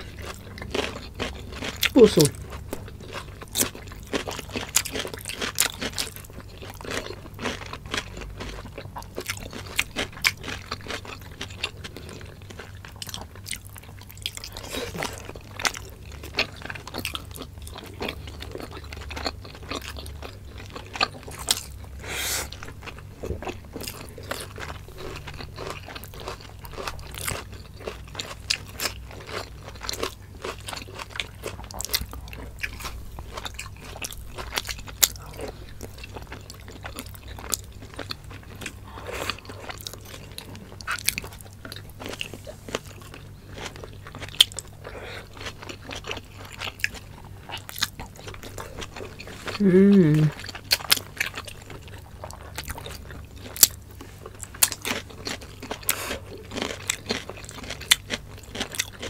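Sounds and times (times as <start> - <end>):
chewing and crunching food: 0.0 - 59.0
steady low hum: 0.0 - 59.0.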